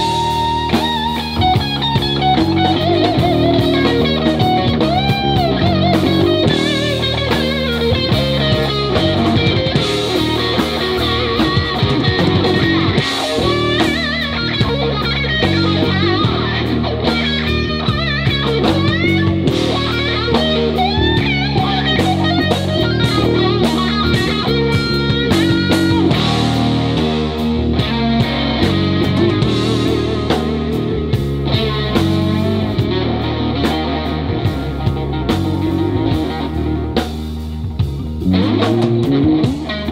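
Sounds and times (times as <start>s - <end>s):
drum kit: 0.0s - 39.9s
electric bass: 0.0s - 39.9s
electric guitar lead: 0.0s - 39.9s.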